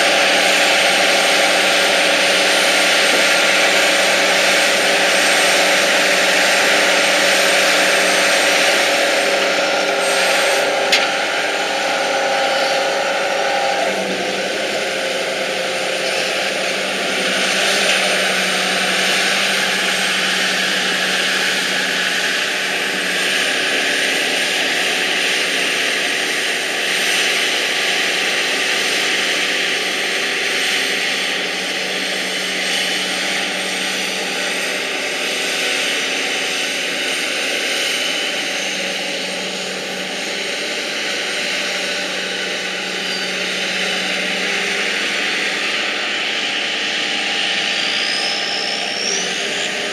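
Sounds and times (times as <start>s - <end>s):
heavy farm machinery running: 0.0s - 49.9s.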